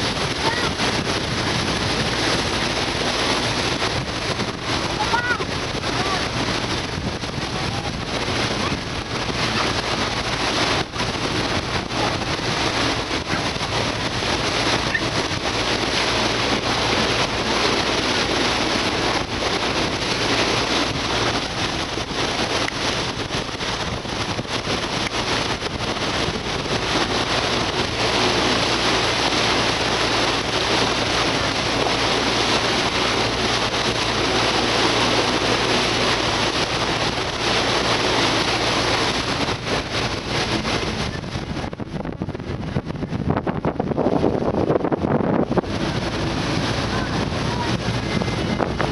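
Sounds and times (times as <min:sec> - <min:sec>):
rushing seawater: 0:00.0 - 0:48.9
ship engine droning: 0:00.0 - 0:48.9
wind noise on microphone: 0:00.0 - 0:48.9.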